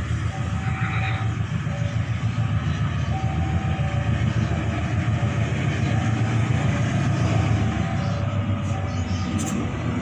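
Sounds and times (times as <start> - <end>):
locomotive engine rumbling: 0.0 - 10.0.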